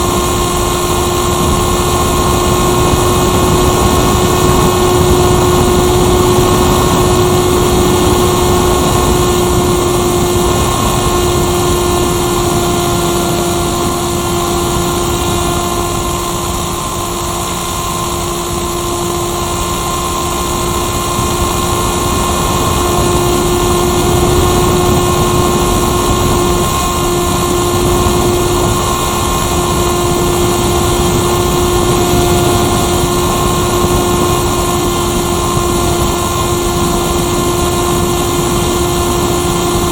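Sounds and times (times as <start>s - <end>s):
model plane motor and propeller: 0.0s - 39.9s.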